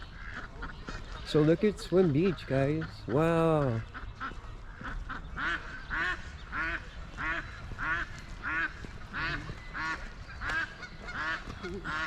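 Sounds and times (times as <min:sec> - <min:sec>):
waterfowl nasal calls: 0:00.1 - 0:12.0.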